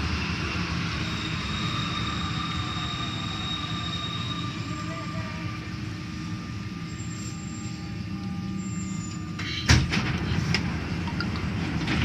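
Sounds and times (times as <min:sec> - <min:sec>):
metro train running rumble: 0:00.0 - 0:12.0.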